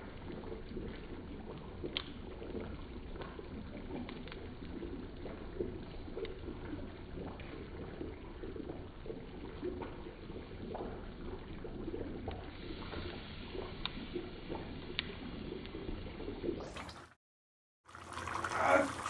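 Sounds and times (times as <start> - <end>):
curry bubbling in a pan: 0.0 - 17.2, 17.8 - 19.0.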